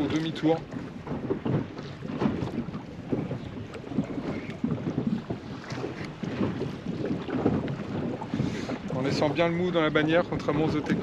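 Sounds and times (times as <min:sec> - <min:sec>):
water lapping against hull: 0:00.0 - 0:11.0
wind buffeting microphone: 0:00.0 - 0:11.0.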